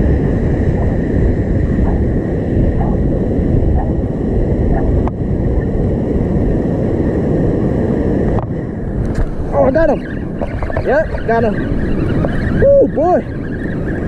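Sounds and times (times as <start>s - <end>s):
ocean surf rushing: 0.0s - 14.0s
wind buffeting microphone: 0.0s - 14.0s.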